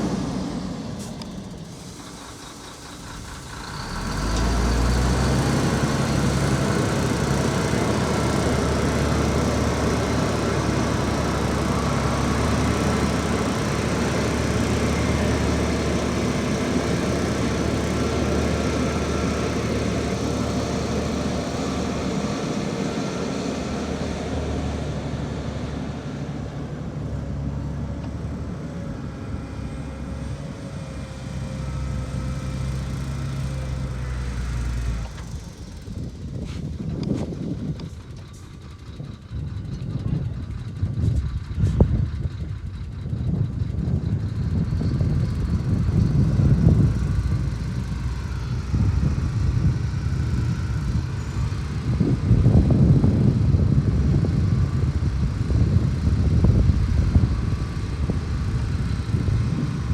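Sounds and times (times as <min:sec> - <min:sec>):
heavy diesel engine revving: 0:00.0 - 0:59.9.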